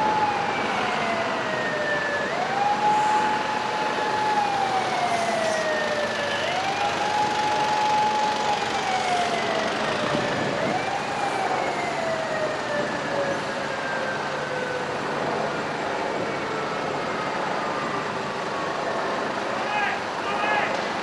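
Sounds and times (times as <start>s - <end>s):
fire engine siren wailing: 0.0s - 21.0s
street and engine noise: 0.0s - 21.0s.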